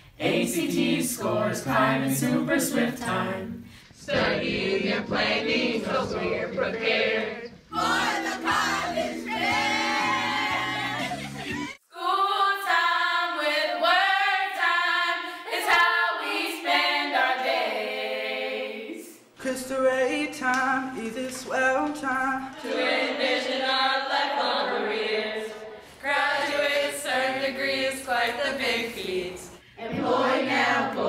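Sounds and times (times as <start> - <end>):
group singing a cappella: 0.0 - 21.2, 22.0 - 31.0.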